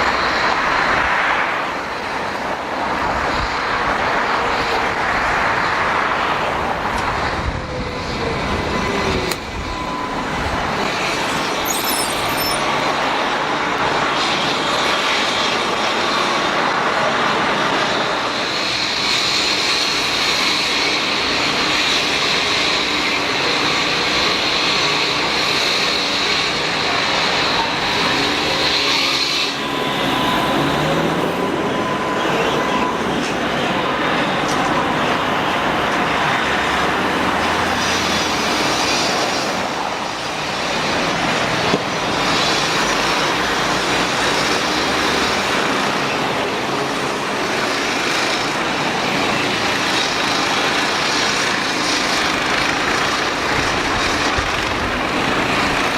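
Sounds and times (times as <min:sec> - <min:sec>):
tram rolling rumble: 0:00.0 - 0:55.9.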